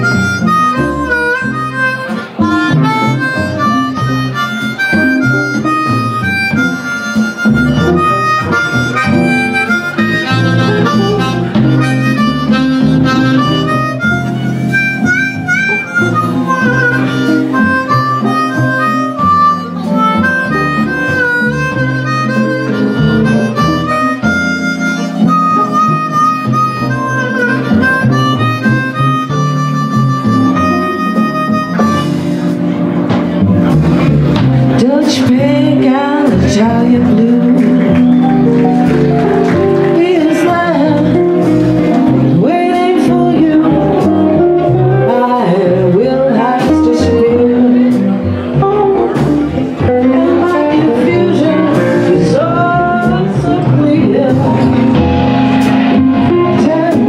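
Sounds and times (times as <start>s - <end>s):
amplified blues harmonica: 0.0s - 57.0s
electric guitar accompaniment: 0.0s - 57.0s.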